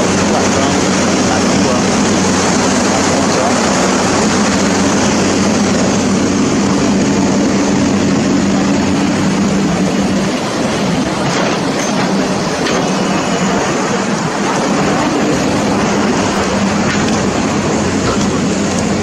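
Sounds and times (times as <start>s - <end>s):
loud rushing noise: 0.0s - 19.0s
motor droning: 0.0s - 19.0s.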